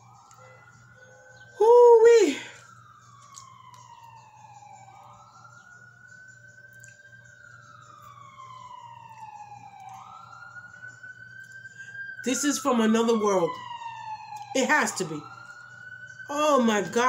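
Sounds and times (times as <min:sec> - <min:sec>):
faint emergency siren wailing: 0:00.0 - 0:17.0.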